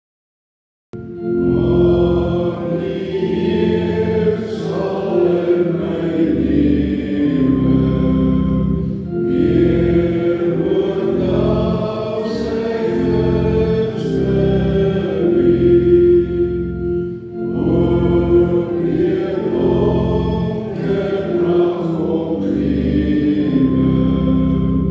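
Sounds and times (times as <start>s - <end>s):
congregation singing a hymn: 1.0s - 24.9s
sustained chords: 1.0s - 24.9s.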